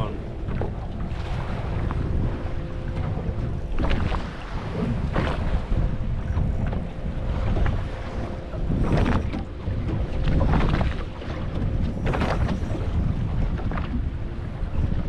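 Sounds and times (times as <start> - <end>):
water splashing against boat: 0.0 - 15.0
wind buffeting microphone: 0.0 - 15.0.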